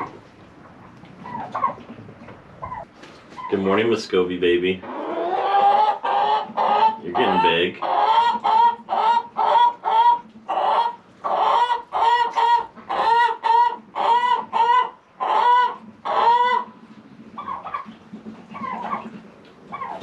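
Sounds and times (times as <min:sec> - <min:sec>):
poultry calling: 0:00.0 - 0:01.9, 0:04.8 - 0:20.0.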